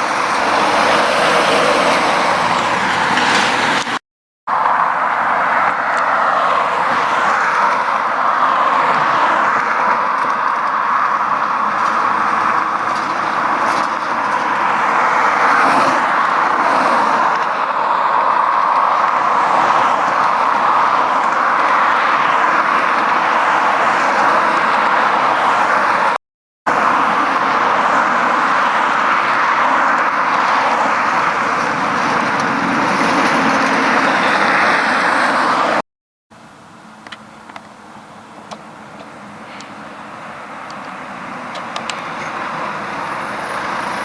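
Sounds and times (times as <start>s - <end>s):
vehicle engines: 0.0s - 44.0s.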